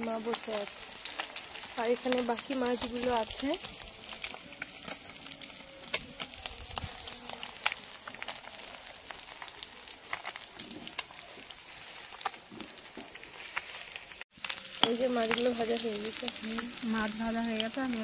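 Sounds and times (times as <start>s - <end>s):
fish sizzling in hot oil: 0.0s - 18.0s
oil crackling and popping: 0.0s - 18.0s.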